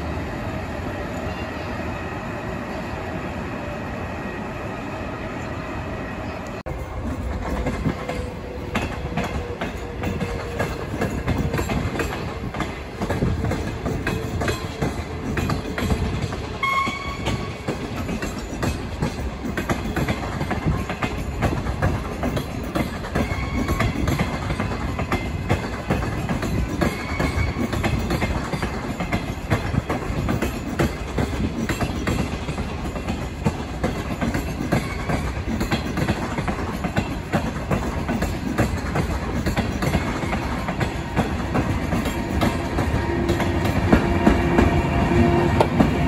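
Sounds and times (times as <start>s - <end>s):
train wheels clicking over rail joints: 6.7s - 46.0s.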